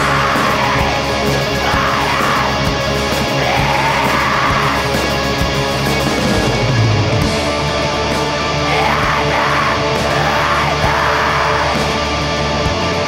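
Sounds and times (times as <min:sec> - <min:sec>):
distorted electric guitars: 0:00.0 - 0:13.0
drums: 0:00.0 - 0:13.0
harsh yelled vocals: 0:00.0 - 0:13.0.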